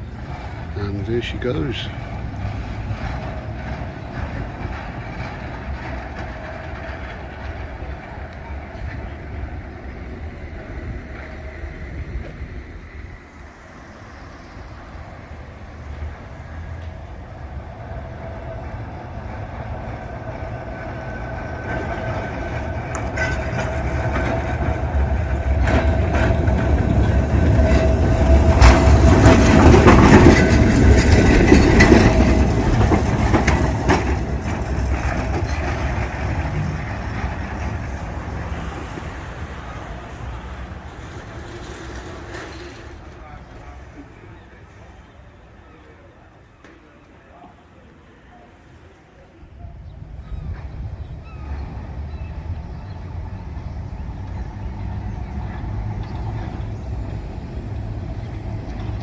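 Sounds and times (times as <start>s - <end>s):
tram motor whine: 0.0s - 47.2s, 50.0s - 59.0s
wheels clicking on track: 0.0s - 47.6s, 49.7s - 59.0s
tram wheel rumble: 0.0s - 59.0s.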